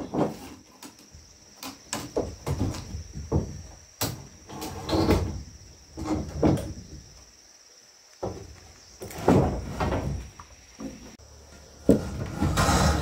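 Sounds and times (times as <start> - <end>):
objects knocking and scraping: 0.0 - 7.0, 8.2 - 11.2, 11.8 - 13.0
high insect trill: 0.0 - 13.0.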